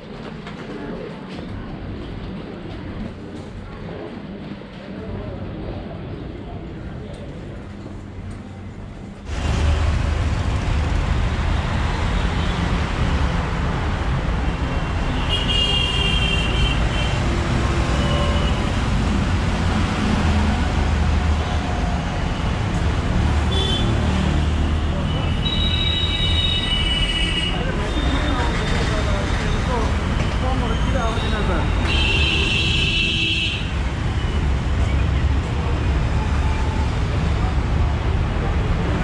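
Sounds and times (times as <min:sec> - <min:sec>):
traffic engine rumble: 0:00.0 - 0:39.0.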